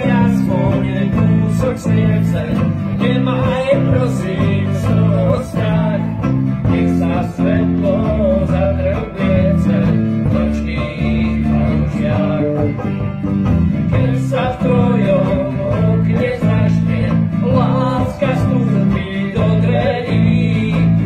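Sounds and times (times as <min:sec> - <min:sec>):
acoustic guitar: 0:00.0 - 0:21.0
banjo: 0:00.0 - 0:21.0
bass guitar: 0:00.0 - 0:21.0
man singing: 0:00.0 - 0:21.0.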